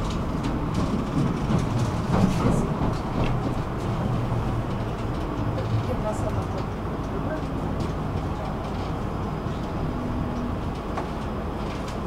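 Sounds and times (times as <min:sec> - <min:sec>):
tram wheels rumbling on track: 0:00.0 - 0:12.0.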